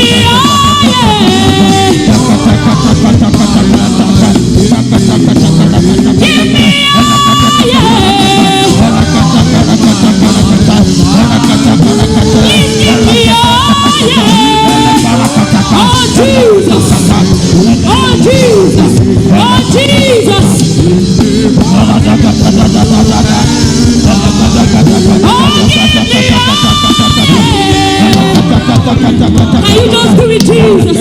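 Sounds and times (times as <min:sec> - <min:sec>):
full band music: 0:00.0 - 0:31.0
singer holding sliding notes: 0:00.0 - 0:31.0.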